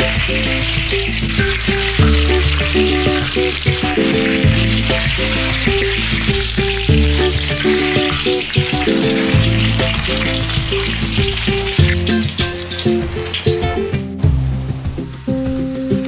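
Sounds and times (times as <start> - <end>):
food sizzling in a pan: 0.0 - 14.2
background music: 0.0 - 16.0.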